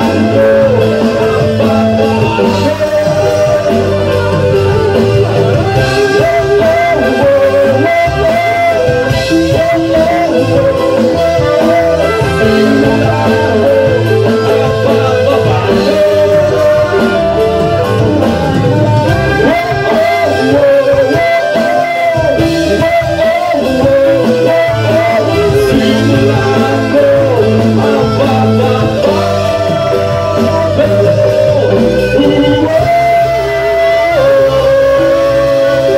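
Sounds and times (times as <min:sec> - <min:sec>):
live reggae band: 0:00.0 - 0:35.9
person singing: 0:00.0 - 0:35.9.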